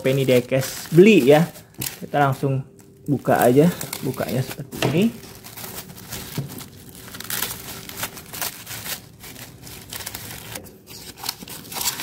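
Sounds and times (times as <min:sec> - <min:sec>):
plastic mailer crinkling: 0:00.0 - 0:12.0.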